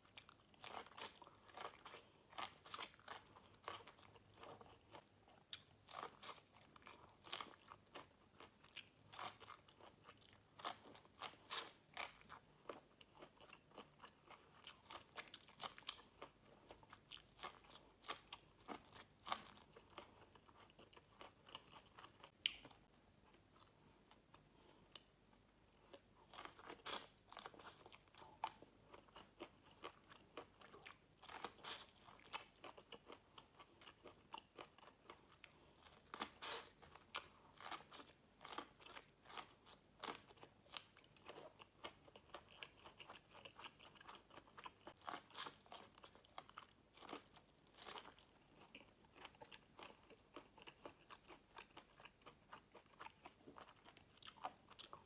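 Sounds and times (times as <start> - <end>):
chewing corn on the cob: 0.0 - 55.0.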